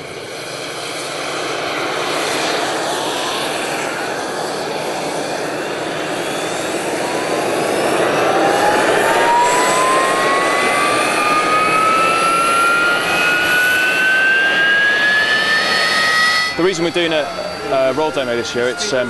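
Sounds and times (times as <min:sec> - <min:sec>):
jet engine rushing noise: 0:00.0 - 0:19.0
jet engine whine rising: 0:00.0 - 0:19.0.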